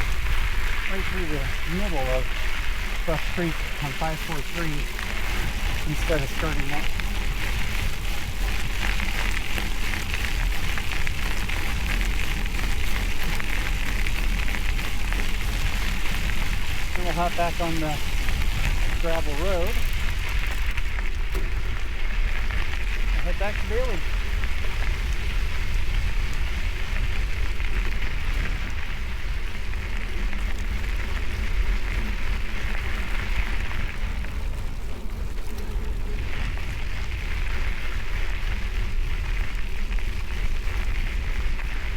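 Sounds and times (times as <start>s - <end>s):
tyres crackling over rough road: 0.0s - 41.9s
wind buffeting microphone: 0.0s - 41.9s.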